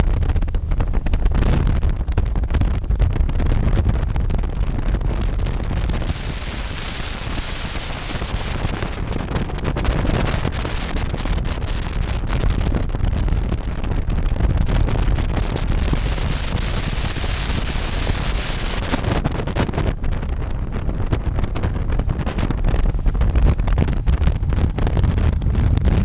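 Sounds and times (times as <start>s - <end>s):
steady low rumble: 0.0s - 26.0s
wind buffeting microphone: 0.0s - 26.0s.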